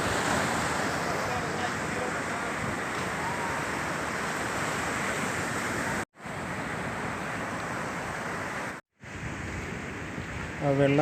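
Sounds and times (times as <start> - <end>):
sea surf: 0.0 - 11.0
wind: 0.0 - 11.0.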